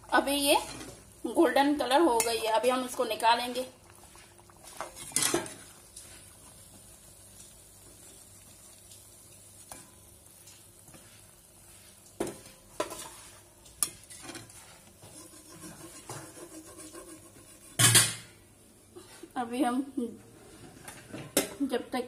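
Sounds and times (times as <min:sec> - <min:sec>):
oil sizzling faintly: 0:00.0 - 0:22.0.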